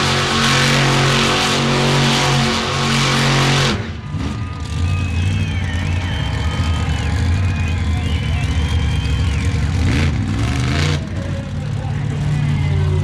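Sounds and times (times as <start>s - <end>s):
low engine rumble: 0.0s - 13.0s
monster truck engine running loud: 0.0s - 13.0s.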